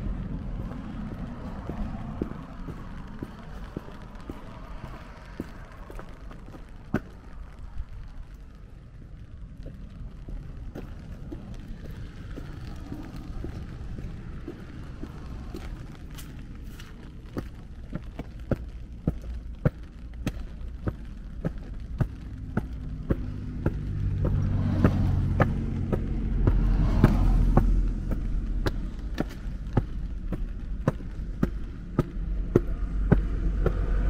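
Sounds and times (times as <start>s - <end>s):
car passing: 0.0s - 34.0s
footsteps walking: 0.0s - 34.0s.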